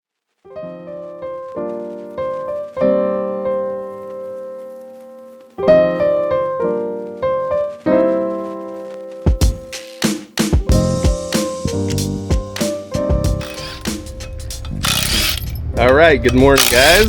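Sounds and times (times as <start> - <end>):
piano notes: 0.5 - 16.6.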